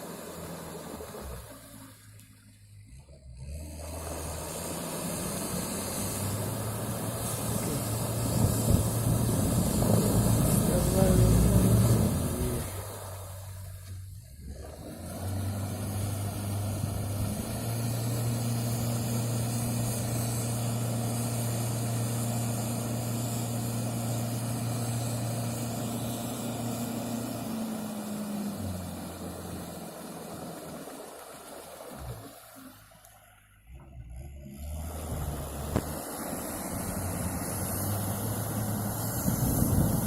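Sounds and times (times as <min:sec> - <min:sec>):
all-terrain vehicle engine running: 0:00.0 - 0:40.0.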